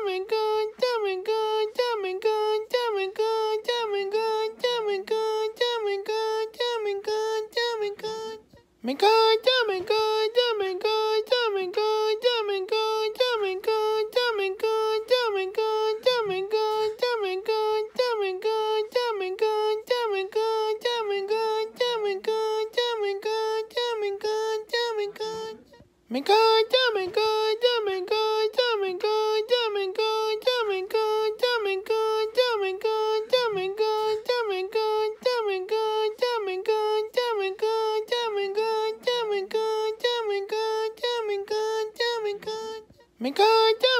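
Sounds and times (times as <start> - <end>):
high voice singing one note: 0.0 - 43.9.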